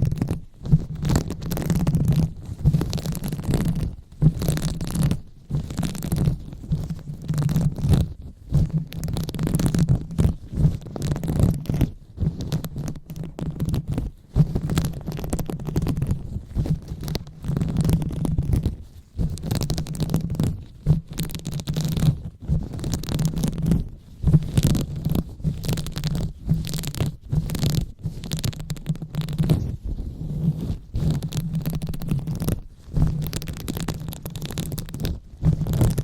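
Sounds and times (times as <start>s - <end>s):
hands rubbing on microphone: 0.0s - 36.0s.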